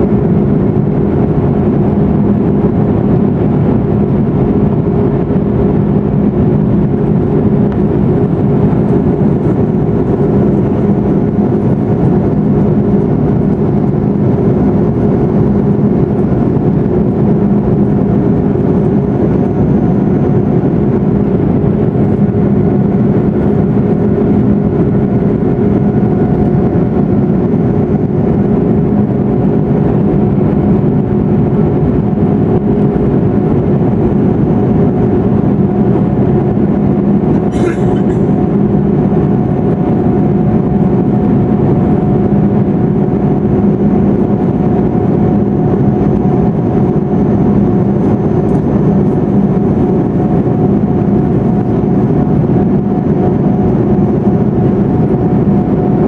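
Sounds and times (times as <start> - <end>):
jet cabin engine drone: 0.0 - 56.0.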